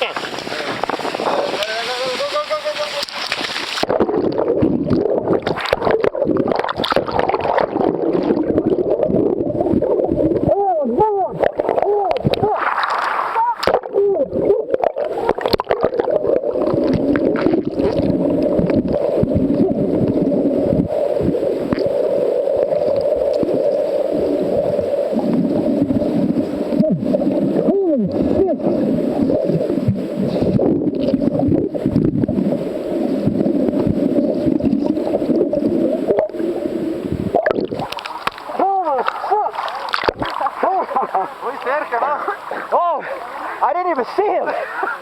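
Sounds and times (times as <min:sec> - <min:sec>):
water gurgling: 0:00.0 - 0:45.0
muffled boat engine drone underwater: 0:03.0 - 0:43.6.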